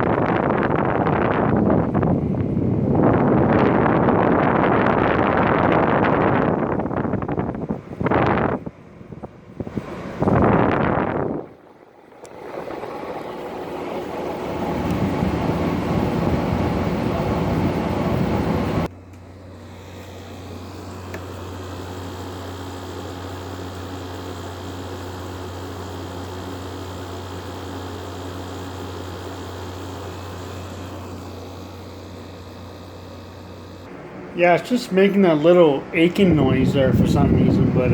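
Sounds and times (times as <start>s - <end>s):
air conditioner low hum: 0.0s - 37.9s
air conditioner rushing air: 0.0s - 37.9s.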